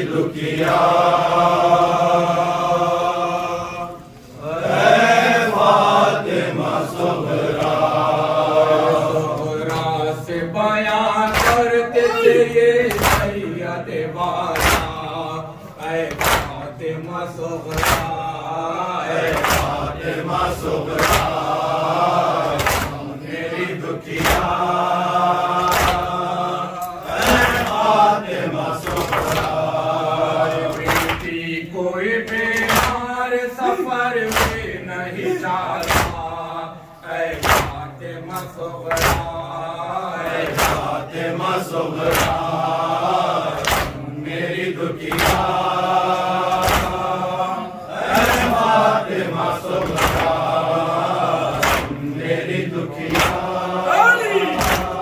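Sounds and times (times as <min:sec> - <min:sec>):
men chanting a lament: 0:00.0 - 0:55.0
rhythmic chest-beating: 0:04.6 - 0:55.0.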